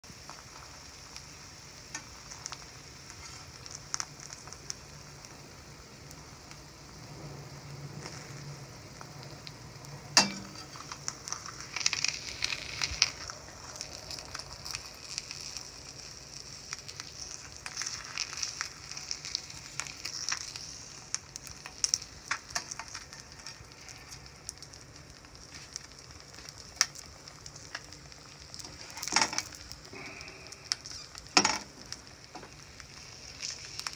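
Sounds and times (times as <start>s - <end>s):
egg sizzling in a pan: 0.0s - 33.9s.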